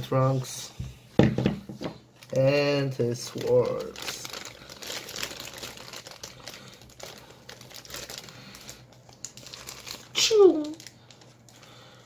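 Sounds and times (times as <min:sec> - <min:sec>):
plastic packaging crinkling: 0:02.1 - 0:12.0.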